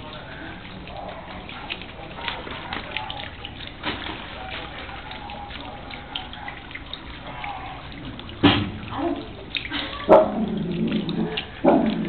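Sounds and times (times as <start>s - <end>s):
fountain trickling into basin: 0.0s - 12.0s.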